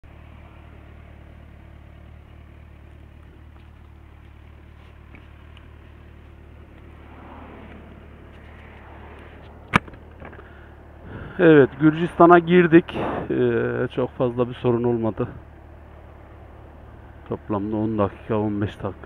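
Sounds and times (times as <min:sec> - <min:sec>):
motorcycle engine idling: 0:00.0 - 0:12.7, 0:13.3 - 0:19.0.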